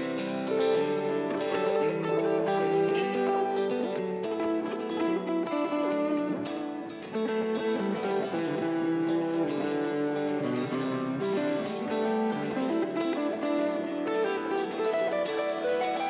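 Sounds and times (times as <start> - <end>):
guitar with effects: 0.0 - 16.0.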